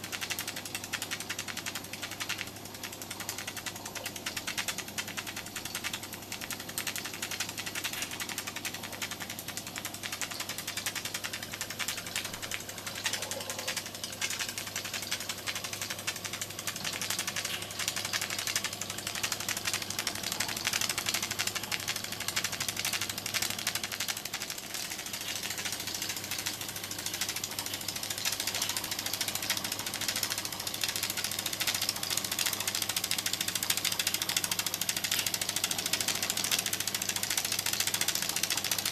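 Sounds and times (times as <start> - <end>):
miniature steam engine chuffing: 0.0 - 38.9.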